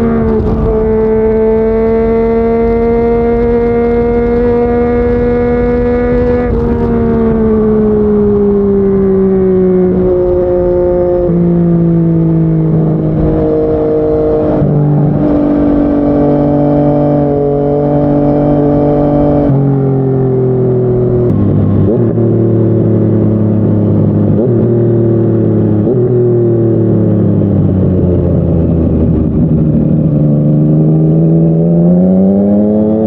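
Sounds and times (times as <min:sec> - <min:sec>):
motorcycle engine while riding: 0:00.0 - 0:33.0.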